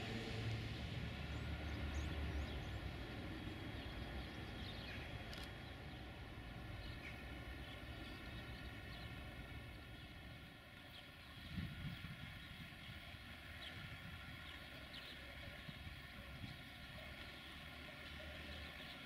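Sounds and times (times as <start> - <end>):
low rumble of distant train: 0.0 - 19.0
small birds chirping: 1.3 - 19.0.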